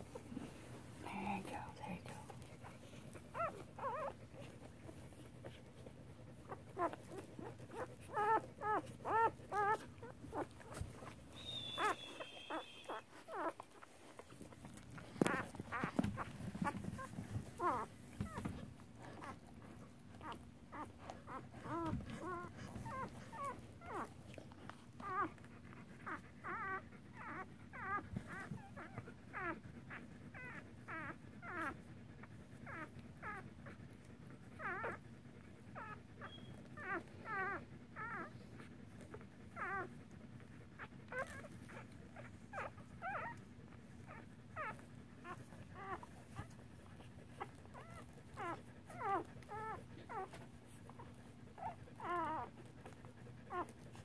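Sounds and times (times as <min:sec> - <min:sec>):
puppies squeaking and whimpering: 0:02.4 - 0:33.8, 0:34.4 - 0:53.9.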